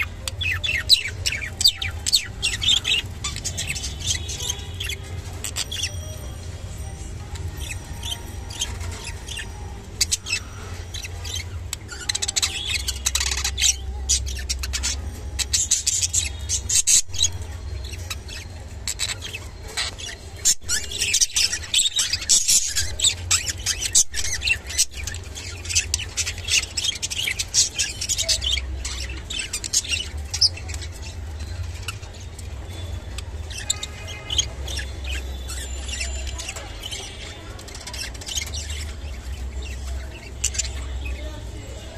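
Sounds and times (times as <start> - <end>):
budgerigars chattering and warbling: 0.0 - 41.9.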